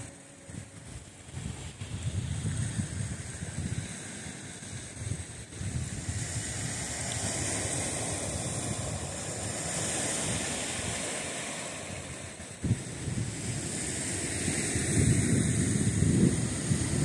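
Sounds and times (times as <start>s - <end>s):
sea wash: 0.0s - 17.0s
wind buffeting microphone: 0.0s - 17.0s.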